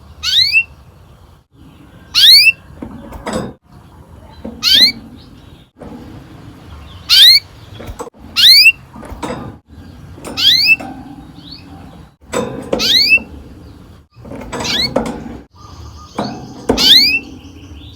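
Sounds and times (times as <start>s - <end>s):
canary chirping: 0.0s - 3.1s, 3.7s - 9.0s, 9.7s - 17.9s
faint knocks: 2.7s - 15.5s, 16.2s - 17.8s.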